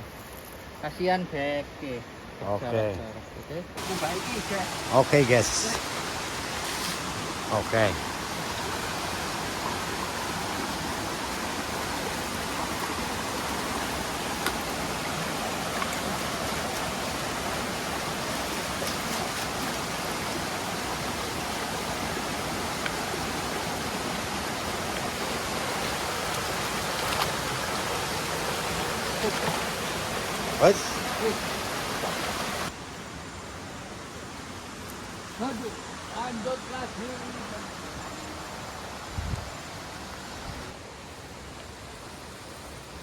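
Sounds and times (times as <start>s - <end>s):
running water rushing: 3.6s - 43.0s.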